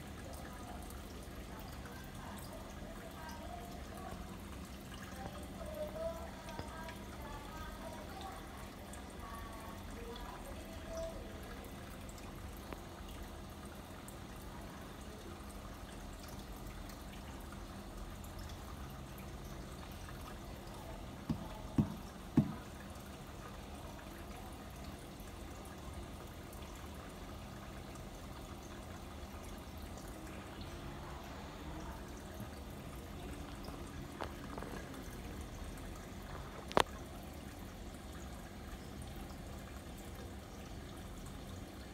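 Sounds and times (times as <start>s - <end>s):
low steady hum: 0.0s - 41.9s
water trickling in fish tank: 0.0s - 41.9s.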